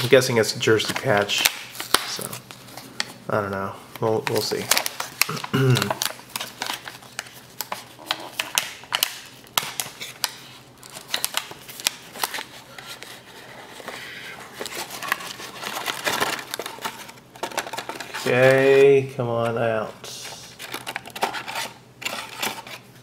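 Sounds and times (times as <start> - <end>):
paper wrapping crackling: 0.0 - 19.1, 20.1 - 23.0.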